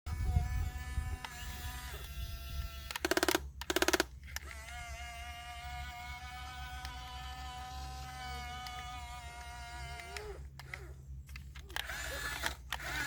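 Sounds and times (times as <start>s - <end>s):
electric motors whining: 0.1s - 13.0s
rapid buzzing rattle: 0.1s - 13.0s.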